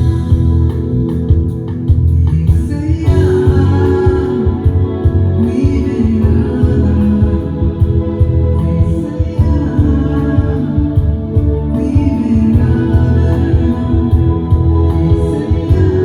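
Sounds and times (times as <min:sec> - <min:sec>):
keyboard and guitar: 0:00.0 - 0:16.0
person singing: 0:00.0 - 0:16.0.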